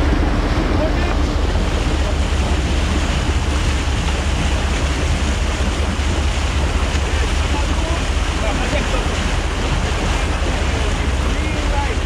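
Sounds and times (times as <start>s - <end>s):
water splashing against boat hull: 0.0s - 12.0s
wind buffeting microphone: 0.0s - 12.0s.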